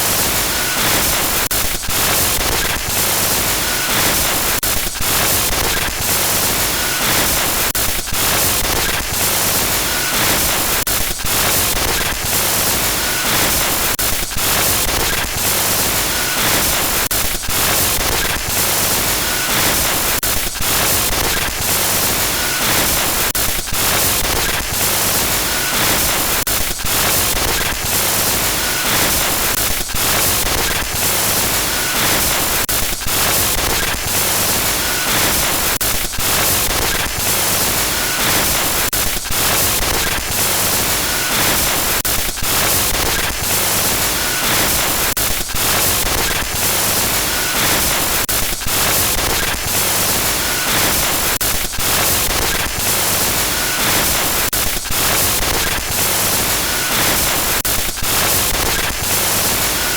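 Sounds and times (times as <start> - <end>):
harsh static glitch noise: 0.0 - 59.9.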